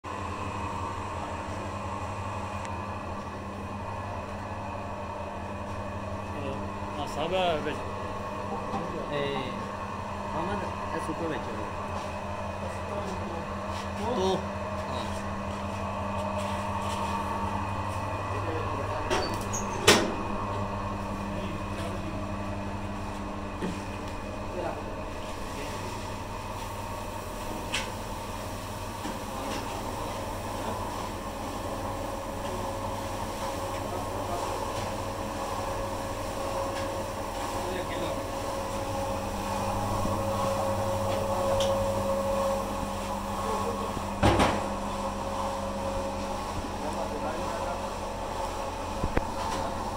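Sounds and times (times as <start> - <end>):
mixer mechanical hum: 0.0 - 49.9.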